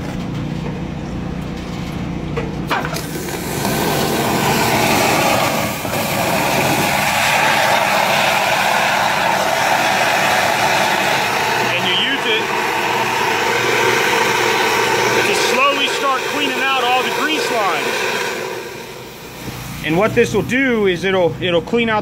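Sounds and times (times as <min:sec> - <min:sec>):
high-pressure water jet hissing: 0:02.8 - 0:20.5.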